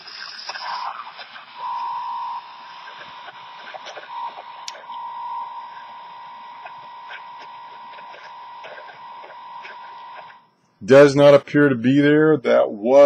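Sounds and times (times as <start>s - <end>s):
constant whistle: 0.0s - 10.5s
radio static: 0.0s - 11.4s
static crackles: 0.0s - 11.4s.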